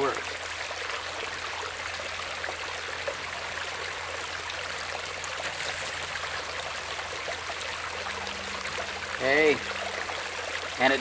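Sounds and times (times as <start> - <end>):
creek water running over rocks: 0.0 - 11.0.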